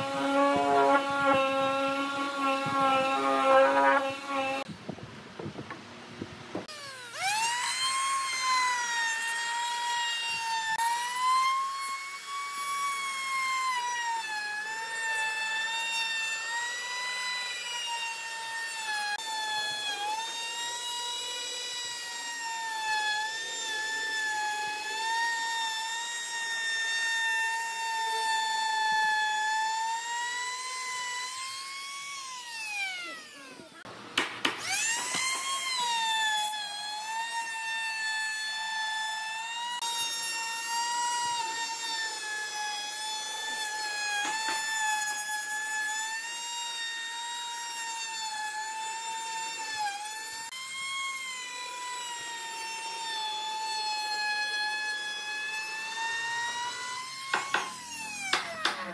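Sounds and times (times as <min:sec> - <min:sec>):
trim router whining: 0:00.0 - 0:04.7, 0:06.6 - 0:58.9.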